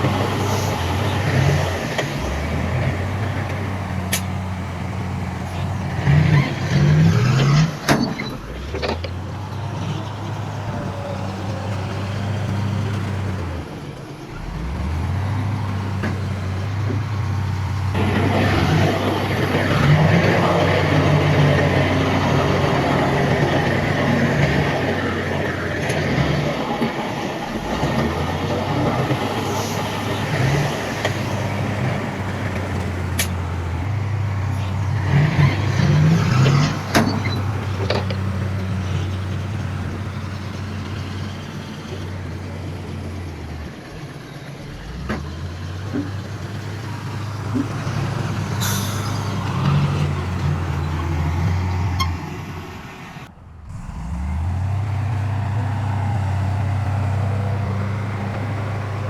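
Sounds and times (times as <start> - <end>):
diesel machinery engine running: 0.0 - 59.0.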